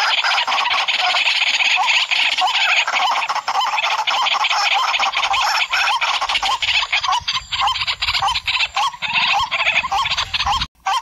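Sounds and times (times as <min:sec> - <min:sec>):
waterhen croaking calls: 0:00.0 - 0:11.0.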